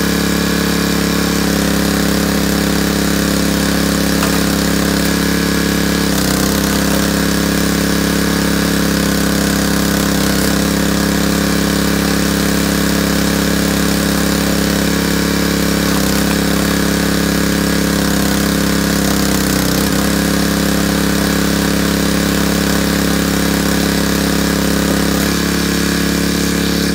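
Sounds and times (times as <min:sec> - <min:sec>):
log splitter engine running: 0:00.0 - 0:26.9.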